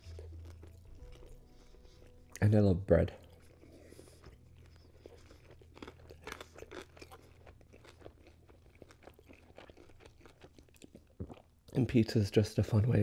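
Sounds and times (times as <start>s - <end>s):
chewing crispy crust: 0.0s - 12.7s.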